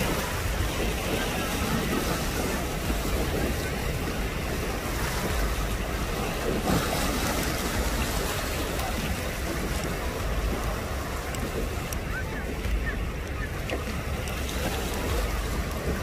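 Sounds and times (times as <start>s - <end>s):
sea water splashing: 0.0s - 16.0s
wind on microphone: 0.0s - 16.0s.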